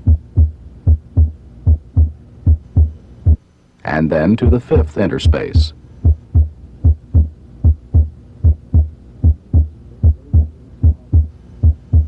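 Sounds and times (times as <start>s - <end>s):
heartbeat through stethoscope: 0.0s - 3.4s, 4.8s - 12.0s.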